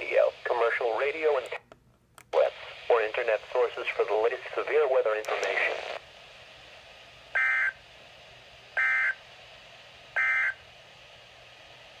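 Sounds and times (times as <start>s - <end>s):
faint radio static: 0.0s - 1.7s, 2.3s - 10.7s.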